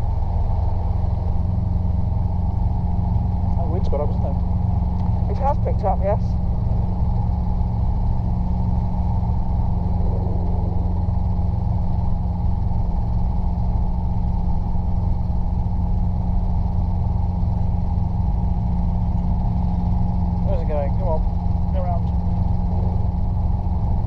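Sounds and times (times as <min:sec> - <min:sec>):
helicopter engine and rotors droning: 0:00.0 - 0:24.0.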